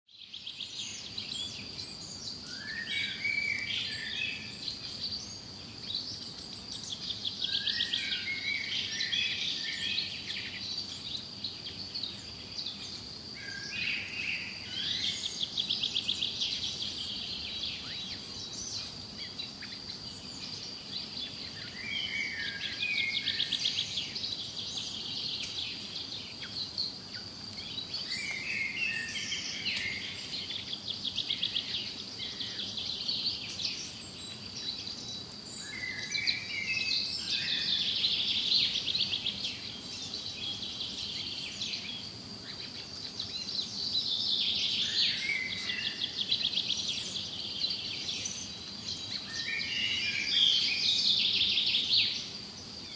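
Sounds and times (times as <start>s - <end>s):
songbird chirping and warbling: 0.1s - 52.9s.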